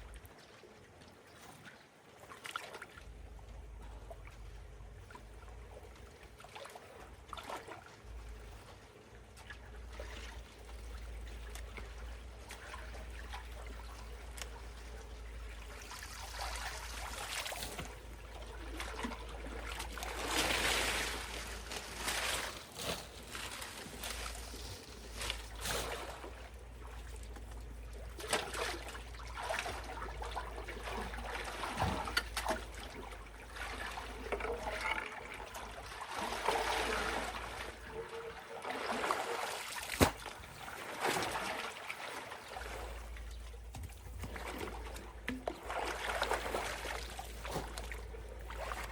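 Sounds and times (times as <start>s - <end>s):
water splashes and sloshes: 0.0s - 48.9s
water trickling through culvert: 0.0s - 48.9s.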